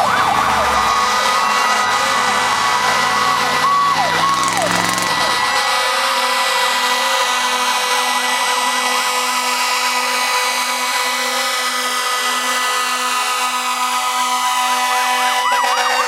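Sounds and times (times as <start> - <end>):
fire truck sirens: 0.0 - 16.0.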